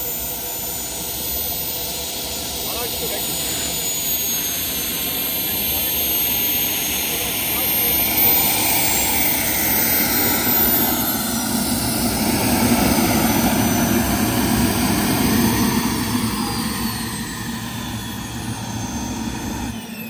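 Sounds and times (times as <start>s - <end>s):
model jet turbine running: 0.0s - 20.0s.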